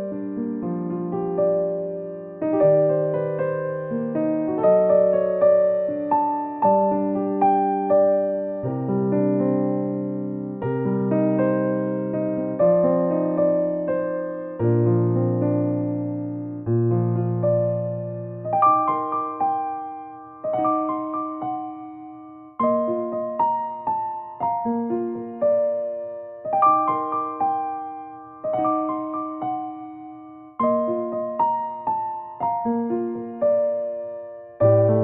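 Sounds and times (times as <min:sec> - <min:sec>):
gentle keyboard music: 0:00.0 - 0:35.0.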